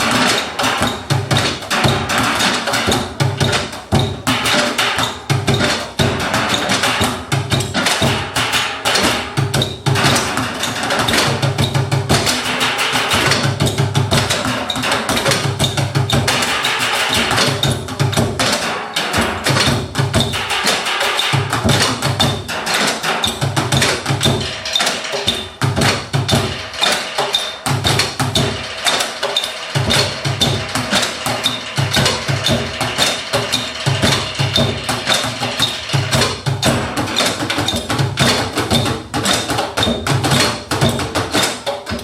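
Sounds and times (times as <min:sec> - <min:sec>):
percussion-heavy live music: 0:00.0 - 0:42.0.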